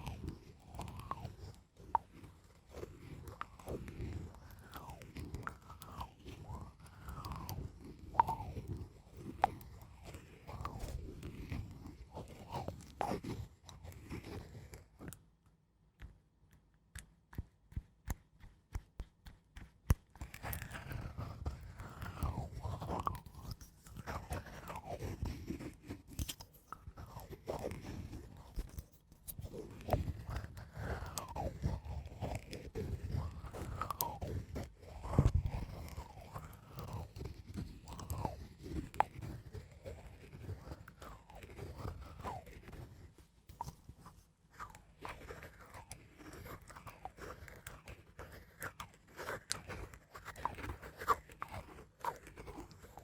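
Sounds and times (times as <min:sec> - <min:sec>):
scratching on a surface: 0:00.0 - 0:15.2, 0:16.0 - 0:53.0.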